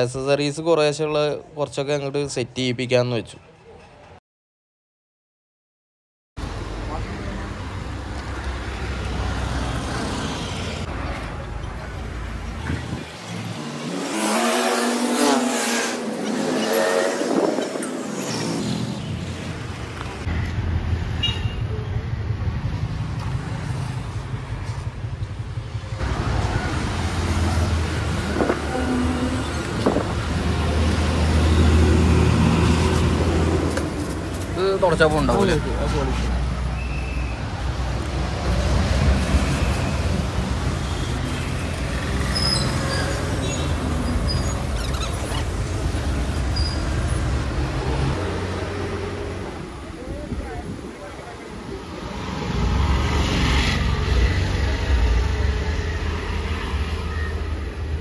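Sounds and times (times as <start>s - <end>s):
vehicle rumble with road noise: 6.4s - 58.0s.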